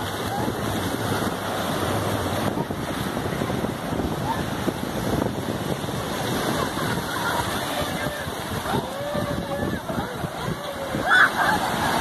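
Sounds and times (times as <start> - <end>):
surf breaking: 0.0 - 12.0
wind buffeting microphone: 0.0 - 12.0.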